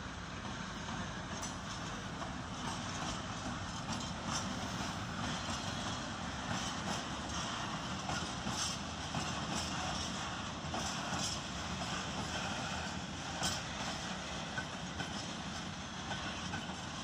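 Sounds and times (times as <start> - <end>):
freight train rumbling past: 0.0 - 17.0
wheels clattering over rail joints: 0.8 - 17.0.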